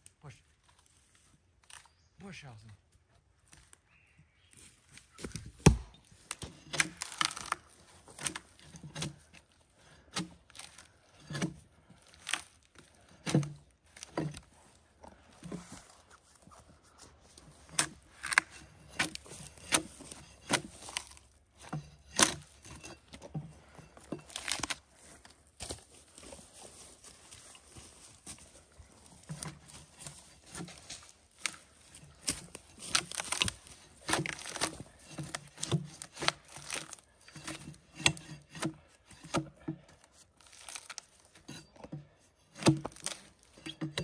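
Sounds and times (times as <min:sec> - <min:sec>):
knocks and scrapes on wood: 0:05.2 - 0:16.7, 0:17.3 - 0:44.0.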